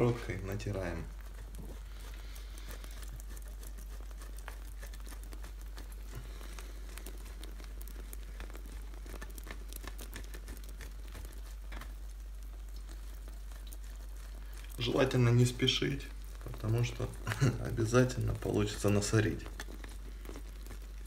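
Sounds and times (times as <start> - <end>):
cheese grating on metal grater: 0.0 - 21.0
low steady hum: 0.0 - 21.0.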